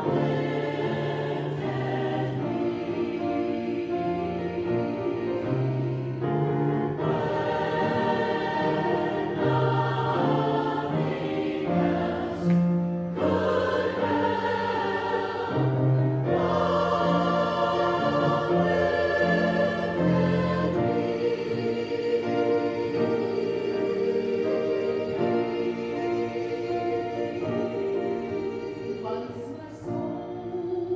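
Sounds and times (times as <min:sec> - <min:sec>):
choir singing a hymn: 0:00.0 - 0:30.9.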